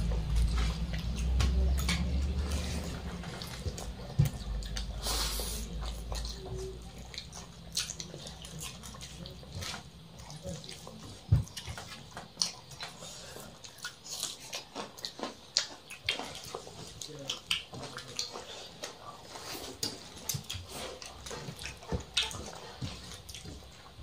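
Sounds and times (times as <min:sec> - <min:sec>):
fingers mixing rice on plates: 0:00.0 - 0:24.0
wet chewing and lip-smacking: 0:00.0 - 0:24.0.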